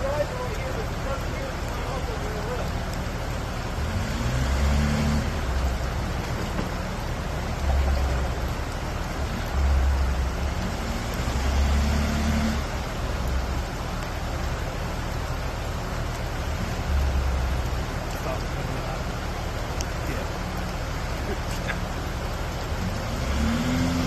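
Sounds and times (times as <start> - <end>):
off-road vehicle engine rumbling: 0.0 - 24.0.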